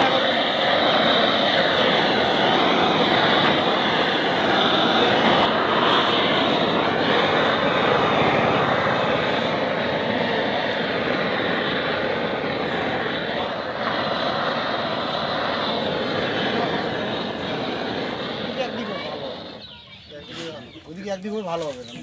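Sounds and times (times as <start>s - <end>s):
blowtorch flame hissing: 0.0s - 22.0s.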